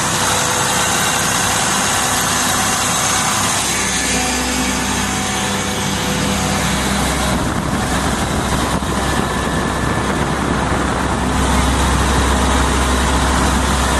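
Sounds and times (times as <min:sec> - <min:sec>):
diesel air compressor running: 0:00.0 - 0:13.9.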